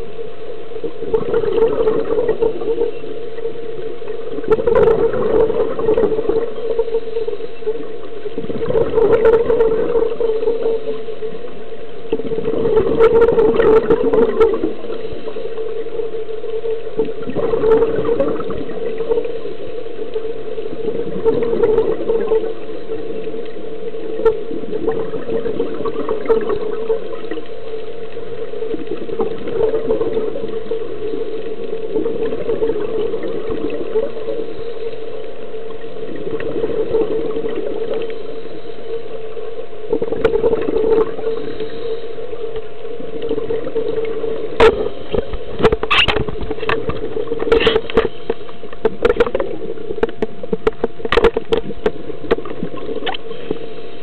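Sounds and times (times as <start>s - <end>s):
regulator bubbles gurgling underwater: 0.0s - 54.0s.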